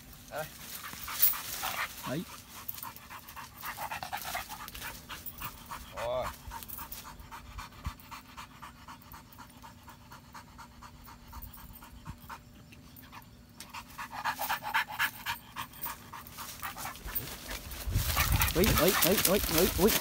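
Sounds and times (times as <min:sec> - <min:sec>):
dog panting rapidly: 0:00.8 - 0:20.0.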